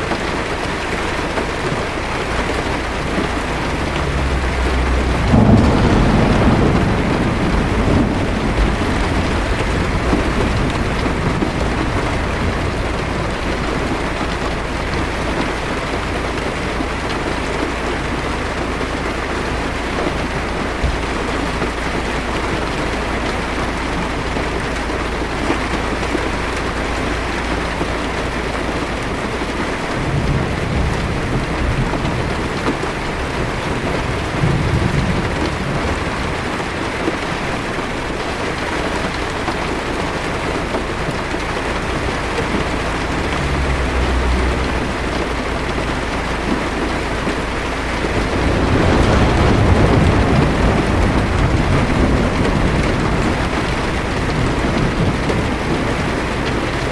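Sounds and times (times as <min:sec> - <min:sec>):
distant thunder rumbles: 0:00.0 - 0:56.9
heavy rain on car roof: 0:00.0 - 0:56.9.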